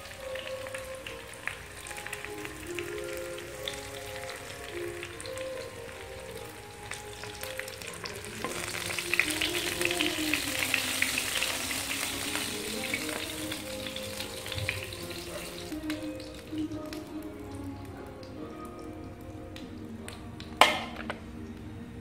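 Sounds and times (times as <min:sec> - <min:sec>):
oil sizzling in frying pan: 0:00.0 - 0:21.2
quiet background music: 0:00.0 - 0:22.0.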